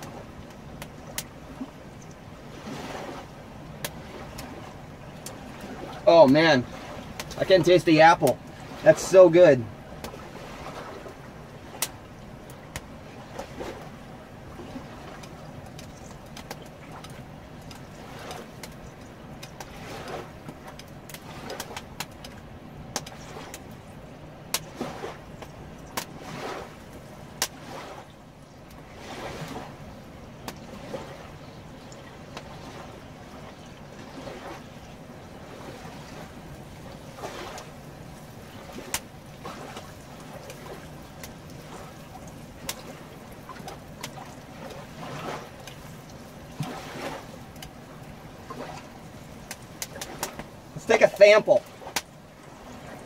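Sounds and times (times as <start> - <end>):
campfire crackling and popping: 0.0 - 53.0
flowing river water: 0.0 - 53.0.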